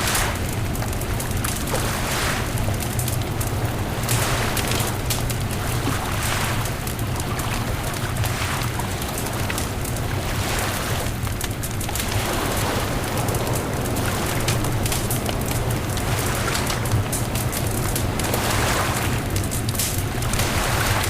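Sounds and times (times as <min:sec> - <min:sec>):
bonfire crackling and popping: 0:00.0 - 0:21.0.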